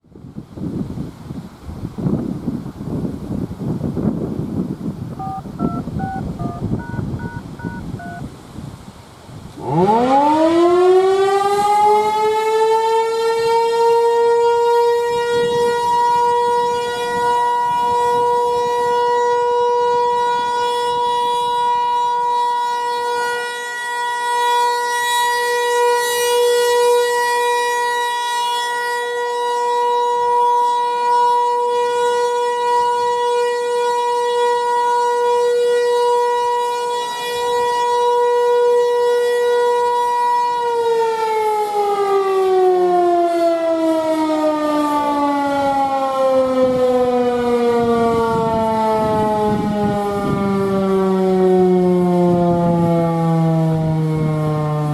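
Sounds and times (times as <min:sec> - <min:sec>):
two-tone warning siren: 0:05.2 - 0:08.8, 0:09.4 - 0:54.9.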